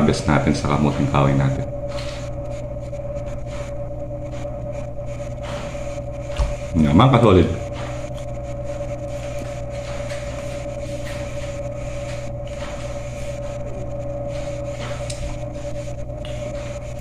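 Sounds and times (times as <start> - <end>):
electrical appliance hum: 0.0 - 17.0.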